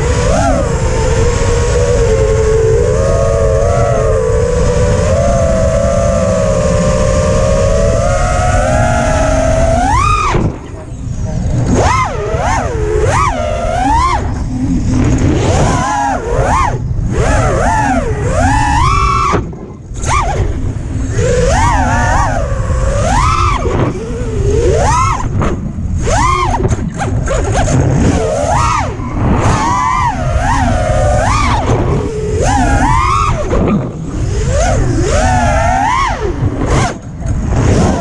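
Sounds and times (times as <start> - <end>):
drone motors whining: 0.0 - 38.0
low rumble: 0.0 - 38.0.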